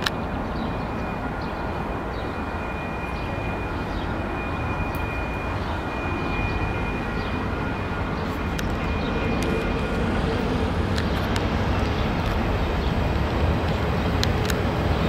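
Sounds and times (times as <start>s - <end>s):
locomotive engine rumble: 0.0s - 15.0s
steady high-pitched tone: 0.0s - 15.0s.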